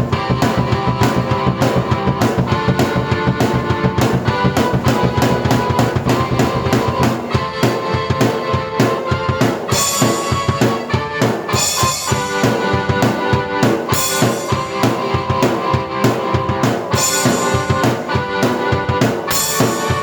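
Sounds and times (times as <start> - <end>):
drum beat: 0.0 - 20.0
keyboard notes and chords: 0.0 - 20.0.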